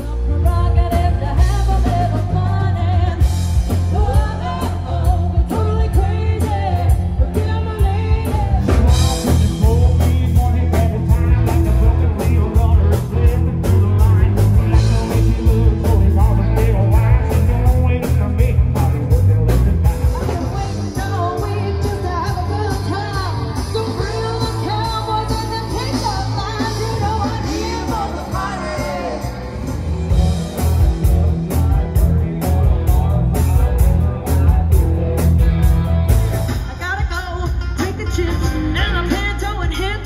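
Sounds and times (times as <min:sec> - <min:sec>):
person singing: 0:00.0 - 0:34.9
bass guitar: 0:00.0 - 0:40.0
drum kit beat: 0:00.0 - 0:40.0
electric guitar: 0:00.0 - 0:40.0.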